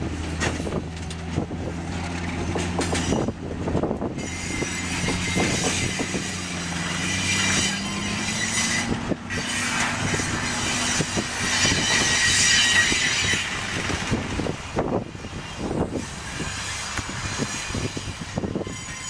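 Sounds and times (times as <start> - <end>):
low diesel drone: 0.0 - 19.0
train wheels clicking over rail joints: 0.0 - 19.0
wheels squealing against rails: 0.2 - 19.0.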